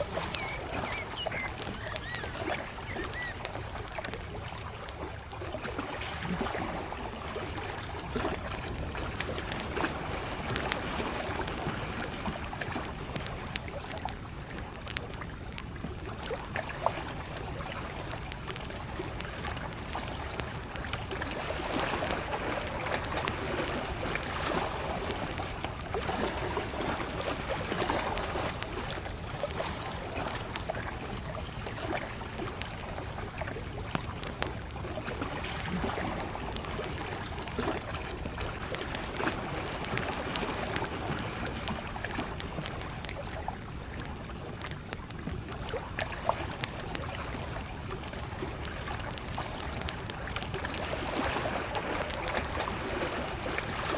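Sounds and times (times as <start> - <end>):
campfire crackling and popping: 0.0 - 53.9
waves lapping on shore: 0.0 - 53.9.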